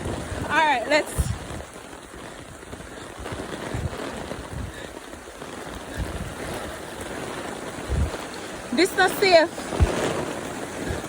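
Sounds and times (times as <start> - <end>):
heavy rain hissing: 0.0 - 11.0
wind buffeting microphone: 0.0 - 11.0.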